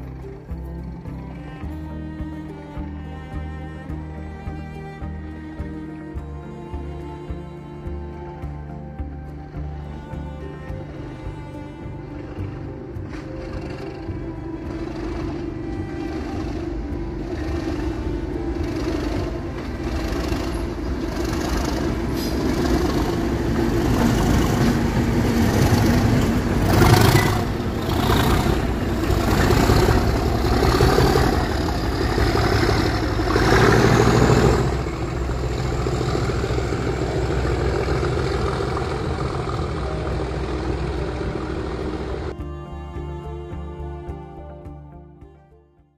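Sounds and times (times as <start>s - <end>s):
diesel train passing: 0.0s - 43.2s.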